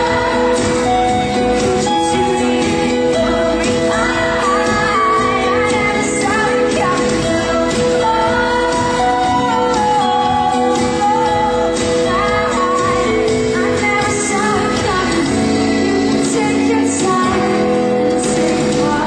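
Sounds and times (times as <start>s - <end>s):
acoustic guitar: 0.0s - 19.0s
woman singing into microphone: 0.0s - 19.0s.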